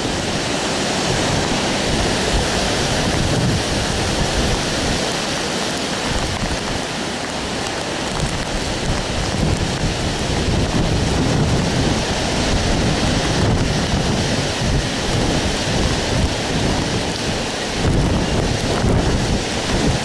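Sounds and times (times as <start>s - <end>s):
strong wind gusting through trees: 0.0s - 20.0s
wind buffeting microphone: 0.0s - 20.0s.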